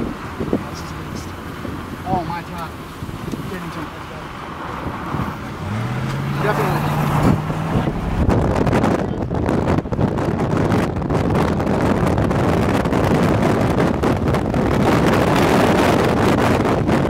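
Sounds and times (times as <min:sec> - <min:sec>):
wind on microphone: 0:00.0 - 0:03.7, 0:04.4 - 0:17.0
moving vehicle noise: 0:00.0 - 0:17.0.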